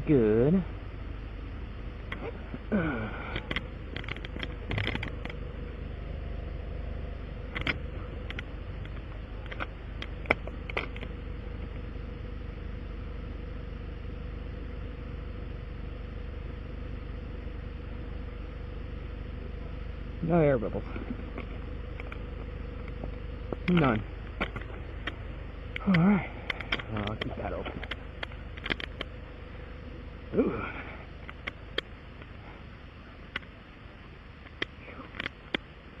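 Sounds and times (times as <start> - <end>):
faint constant tone: 0.0 - 36.0
vehicle engine idling: 0.0 - 36.0.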